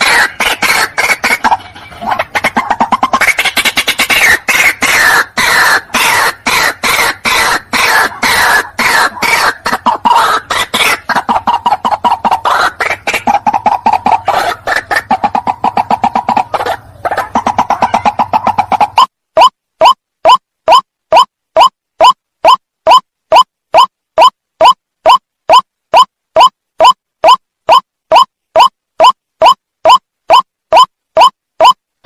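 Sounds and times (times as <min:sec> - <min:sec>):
waterhen calling harsh repeated notes: 0:00.0 - 0:31.8.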